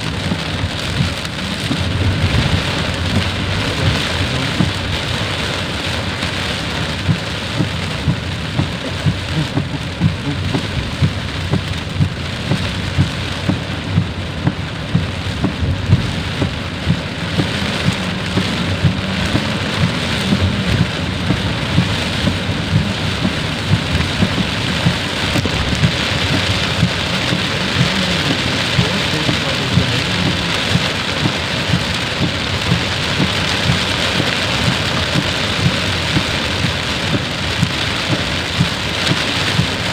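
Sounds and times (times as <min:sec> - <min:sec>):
heavy rain: 0:00.0 - 0:39.9
raindrop taps: 0:00.0 - 0:39.9.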